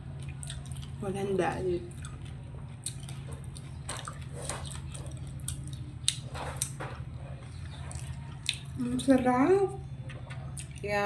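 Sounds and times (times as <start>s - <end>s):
chewing with lip smacks: 0.0s - 1.0s, 1.8s - 10.9s
steady low hum: 0.0s - 11.0s.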